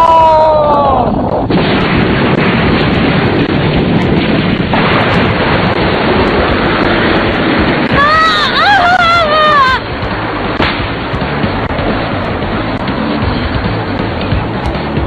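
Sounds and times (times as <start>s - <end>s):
explosion blast noise: 0.6s - 15.0s.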